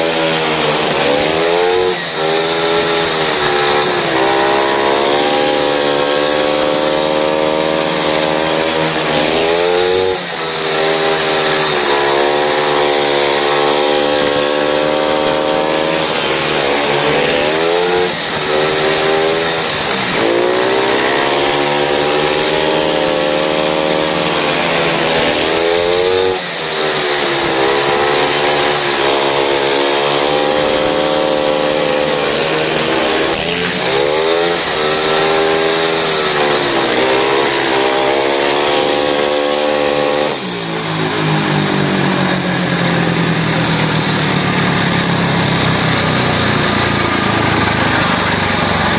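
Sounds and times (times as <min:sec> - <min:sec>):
motorcycle engine running hard: 0:00.0 - 0:48.9.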